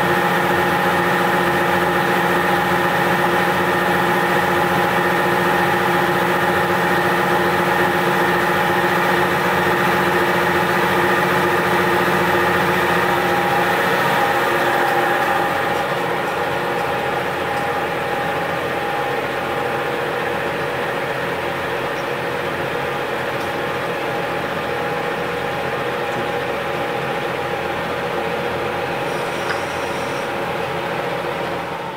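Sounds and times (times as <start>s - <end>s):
motor and pump hum: 0.0s - 31.9s.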